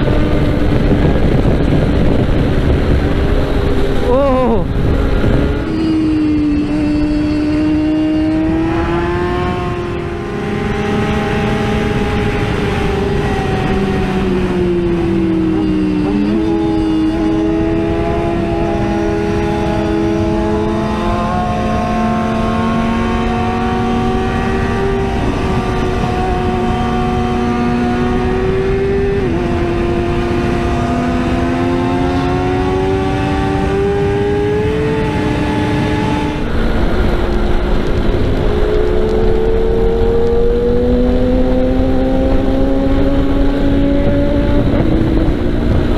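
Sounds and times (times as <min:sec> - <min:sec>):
motorcycle engines running hard: 0:00.0 - 0:45.9
wind noise: 0:00.0 - 0:45.9.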